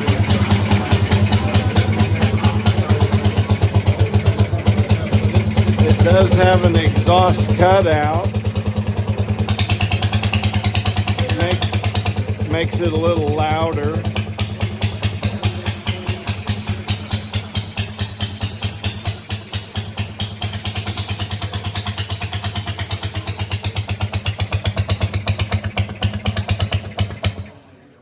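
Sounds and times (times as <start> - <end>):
boat motor running: 0.0 - 28.0.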